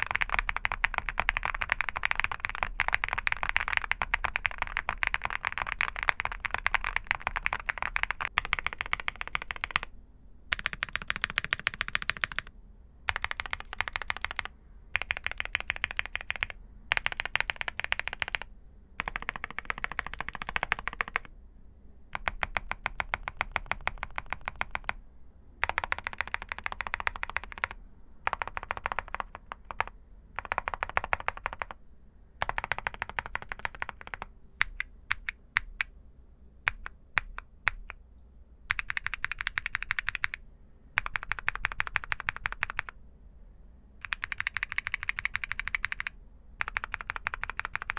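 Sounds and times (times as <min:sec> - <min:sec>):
mechanical keyboard typing: 0:00.0 - 0:09.9, 0:10.5 - 0:12.5, 0:13.1 - 0:21.3, 0:22.1 - 0:25.0, 0:25.6 - 0:31.8, 0:32.4 - 0:35.9, 0:36.7 - 0:38.0, 0:38.7 - 0:40.4, 0:41.0 - 0:43.0, 0:44.0 - 0:47.9.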